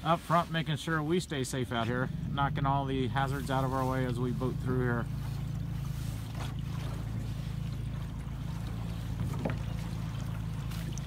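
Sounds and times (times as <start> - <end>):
boat motor running: 0.0 - 11.0
wind: 0.0 - 11.0.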